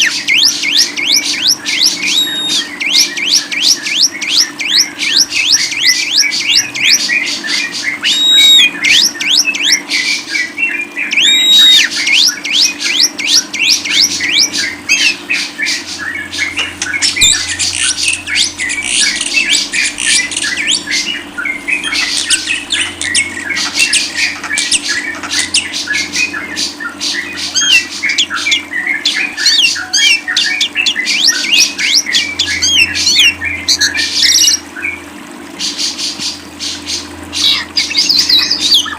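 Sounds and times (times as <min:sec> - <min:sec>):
lovebird chattering: 0:00.0 - 0:07.1, 0:08.0 - 0:09.8, 0:11.1 - 0:26.4, 0:27.1 - 0:34.6
faint steady low hum: 0:00.0 - 0:38.9.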